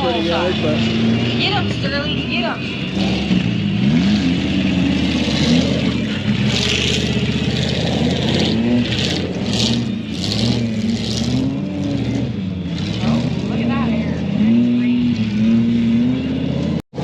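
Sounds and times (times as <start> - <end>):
truck engines revving: 0.0 - 17.0.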